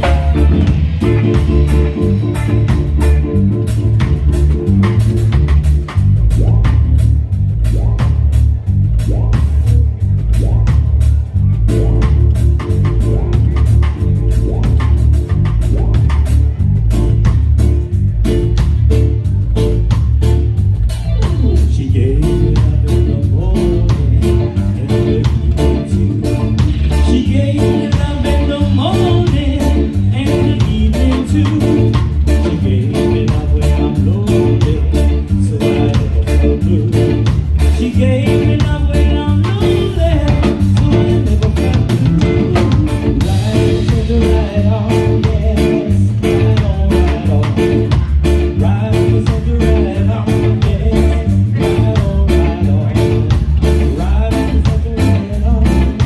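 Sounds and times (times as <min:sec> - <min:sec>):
heavy bass line: 0:00.0 - 0:56.0
live reggae band playing: 0:00.0 - 0:56.0.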